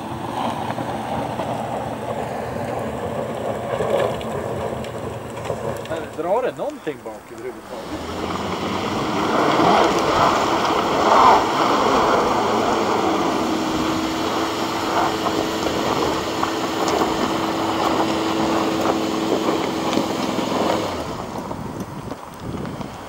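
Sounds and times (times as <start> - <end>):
car engine under load: 0.0 - 23.0
tyres churning slush: 0.0 - 23.0.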